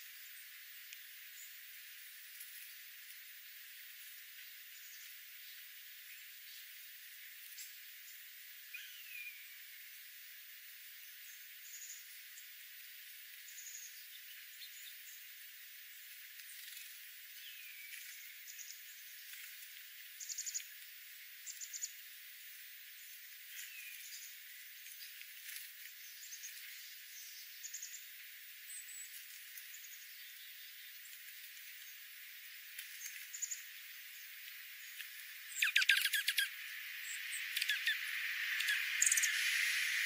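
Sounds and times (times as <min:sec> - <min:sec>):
small birds chirping: 0:00.0 - 0:09.6, 0:13.3 - 0:40.0
steady hiss: 0:00.0 - 0:40.0.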